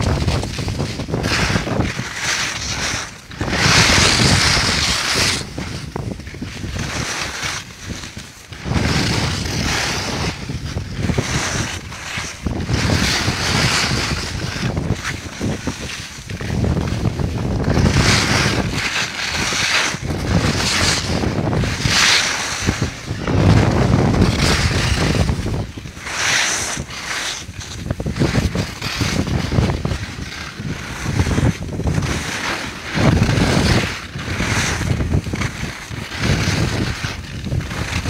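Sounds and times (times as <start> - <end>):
skis scraping over snow: 0.0 - 38.0
wind buffeting microphone: 0.0 - 38.0.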